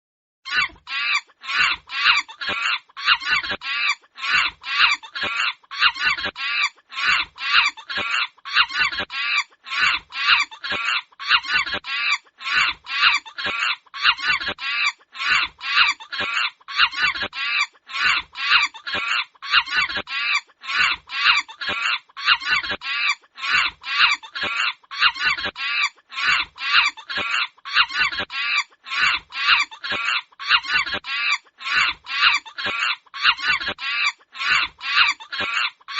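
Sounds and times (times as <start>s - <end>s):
monkey screaming: 0.5s - 35.9s.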